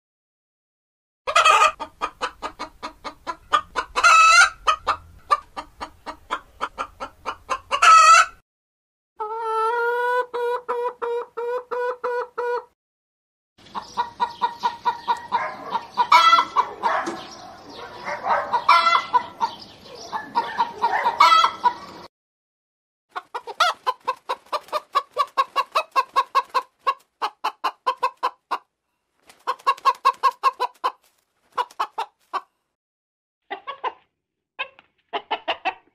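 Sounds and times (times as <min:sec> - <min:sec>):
chicken squawks: 0:01.3 - 0:08.4, 0:09.2 - 0:12.7, 0:13.8 - 0:22.1, 0:23.2 - 0:28.6, 0:29.4 - 0:32.5, 0:33.5 - 0:35.9
chickens clucking: 0:01.3 - 0:08.4, 0:09.2 - 0:12.8, 0:13.6 - 0:22.1, 0:23.1 - 0:32.5, 0:33.5 - 0:35.9.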